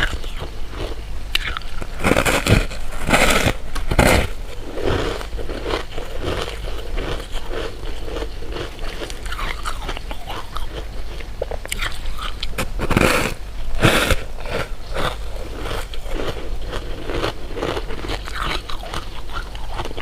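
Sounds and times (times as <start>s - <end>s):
person crunching sweets: 0.0s - 20.0s.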